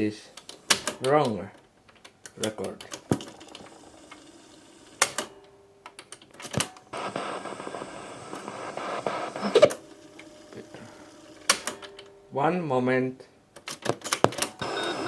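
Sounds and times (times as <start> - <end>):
tape hiss: 0.0 - 13.4, 14.4 - 15.0.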